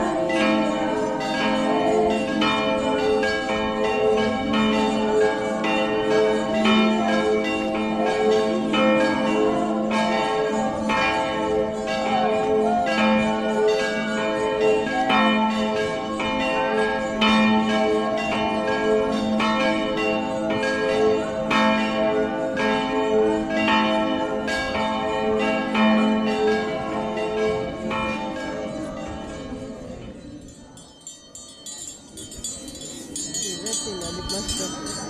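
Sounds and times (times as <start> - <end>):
church bells ringing: 0.0 - 35.0.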